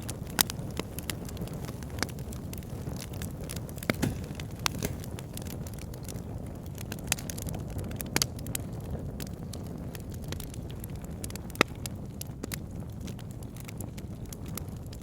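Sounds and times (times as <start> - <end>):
logs crackling and popping: 0.0 - 15.0
fire rushing flame: 0.1 - 14.7.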